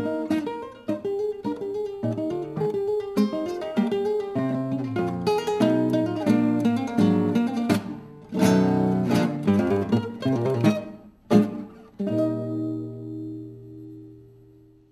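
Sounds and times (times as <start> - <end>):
nylon-string guitars playing: 0.0 - 14.9.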